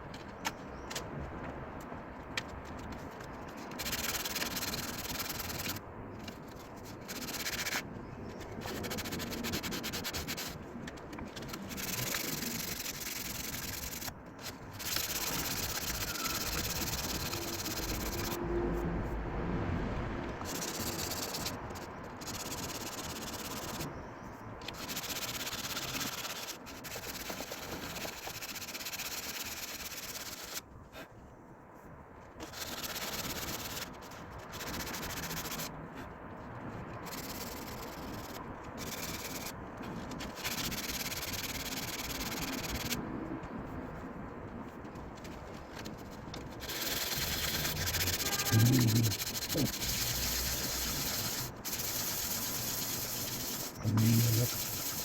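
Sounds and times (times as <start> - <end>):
sandpaper scraping car body: 3.0 - 10.6, 11.2 - 18.4, 20.4 - 23.9, 24.6 - 31.1, 32.4 - 36.0, 37.0 - 43.0, 45.3 - 55.0.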